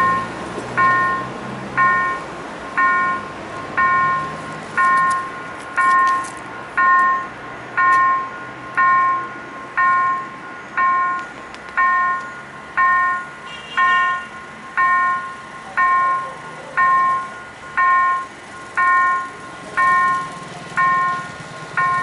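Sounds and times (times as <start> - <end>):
level crossing warning bell: 0.0 - 22.0.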